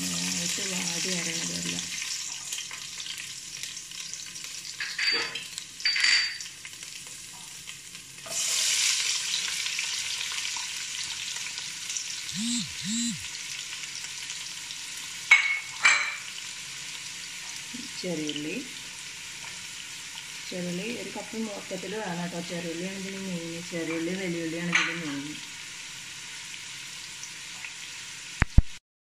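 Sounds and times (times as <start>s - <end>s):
oil sizzling in a pot: 0.0s - 12.3s, 13.2s - 28.8s.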